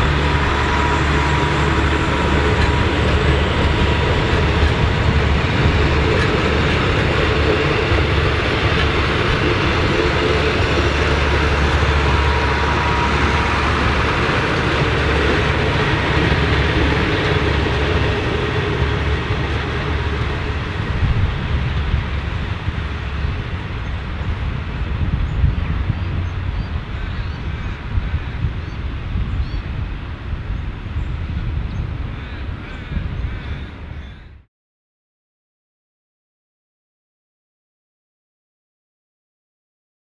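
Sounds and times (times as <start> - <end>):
train wheels rumbling on rails: 0.0 - 34.4.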